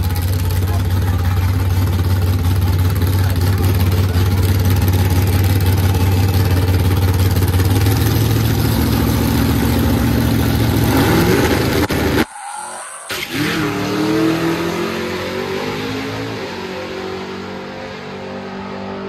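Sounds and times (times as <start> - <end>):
drag car engine revving: 0.0 - 19.0.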